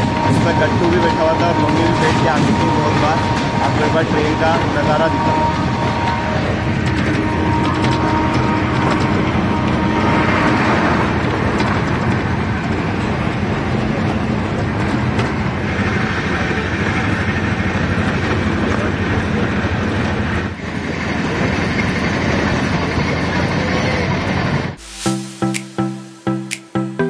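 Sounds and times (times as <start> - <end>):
train wheels rumbling on rails: 0.0 - 24.8.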